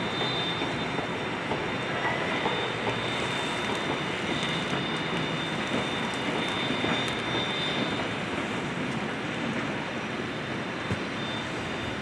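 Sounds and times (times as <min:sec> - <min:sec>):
train rushing on rails: 0:00.0 - 0:12.0.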